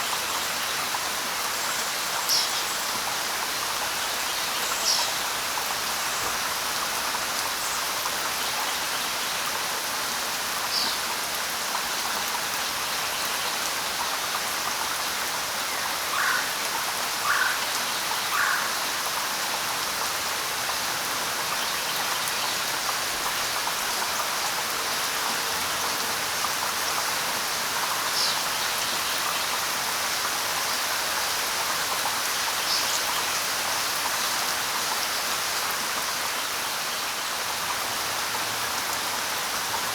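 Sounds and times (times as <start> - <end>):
light rain on foliage: 0.0 - 39.9.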